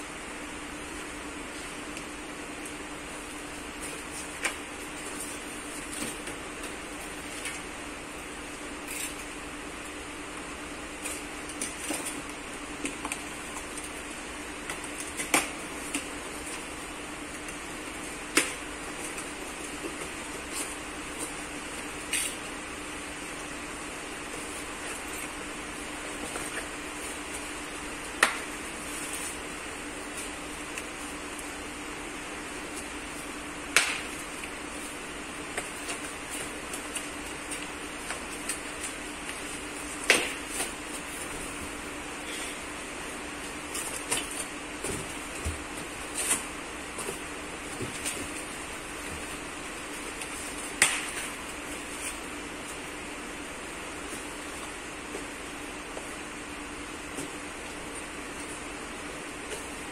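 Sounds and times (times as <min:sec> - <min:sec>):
room hum with low drone: 0:00.0 - 0:59.9.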